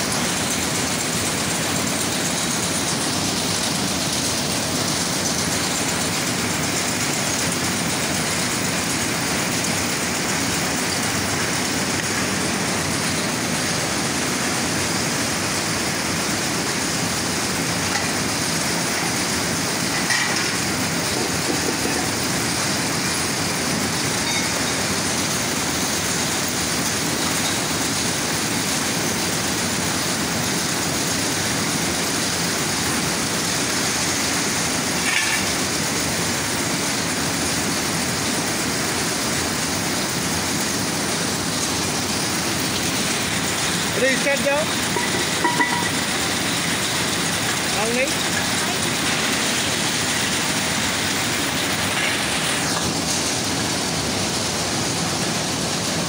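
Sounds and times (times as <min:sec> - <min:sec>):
processing machinery running: 0:00.0 - 0:56.0.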